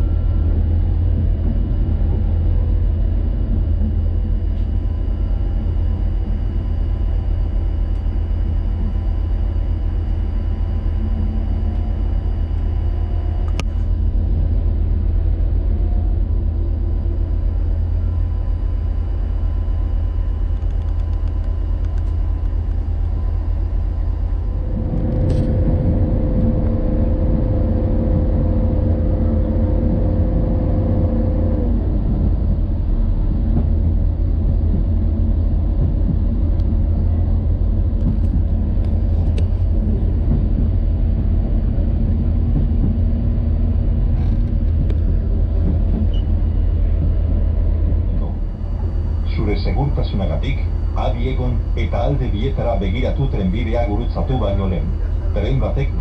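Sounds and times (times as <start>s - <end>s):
engine whine: 0.0s - 56.0s
train engine and wheels rumbling: 0.0s - 56.0s.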